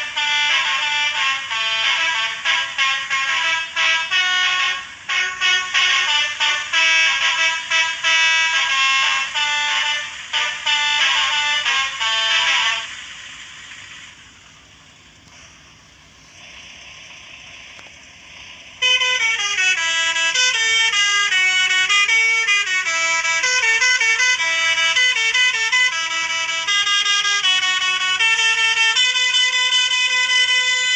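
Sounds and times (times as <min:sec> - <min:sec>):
musical horn playing melody: 0:00.0 - 0:13.1, 0:18.8 - 0:30.9
faint hiss: 0:00.1 - 0:30.9.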